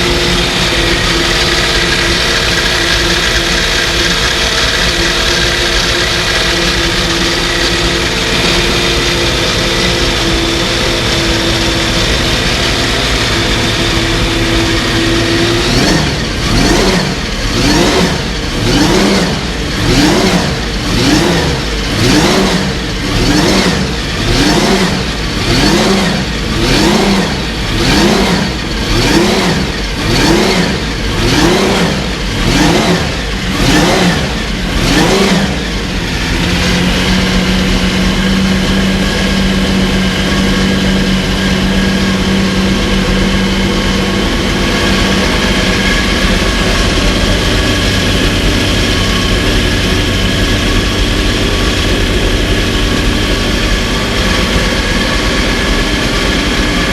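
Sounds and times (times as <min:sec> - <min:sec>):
racing engine idling and revving: 0:00.0 - 0:56.9.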